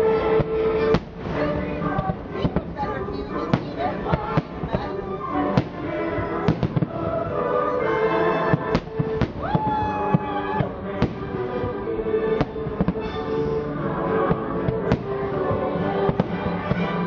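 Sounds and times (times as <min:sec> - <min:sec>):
music with sustained notes: 0:00.0 - 0:17.0.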